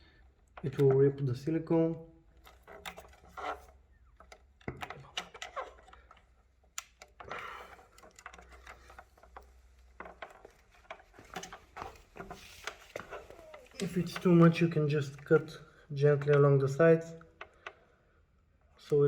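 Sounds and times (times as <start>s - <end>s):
light clicks and taps: 2.4s - 17.9s.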